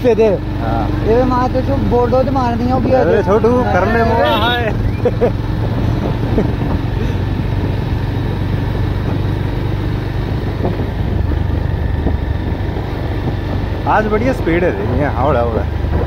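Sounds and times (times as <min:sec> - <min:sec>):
motorcycle engine drone: 0:00.0 - 0:16.0
road and wind noise: 0:00.0 - 0:16.0.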